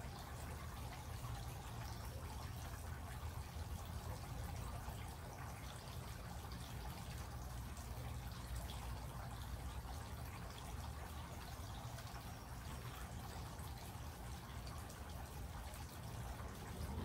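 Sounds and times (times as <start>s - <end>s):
steady rain: 0.0s - 17.0s
water dripping and running: 0.0s - 17.0s.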